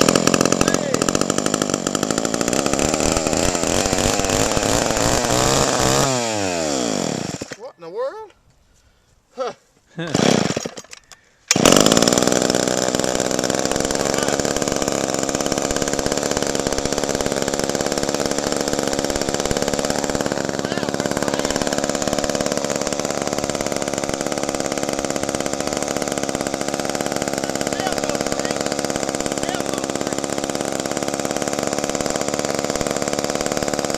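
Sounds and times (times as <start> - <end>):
chainsaw engine idling: 0.0 - 7.6, 10.0 - 10.9, 11.5 - 33.9.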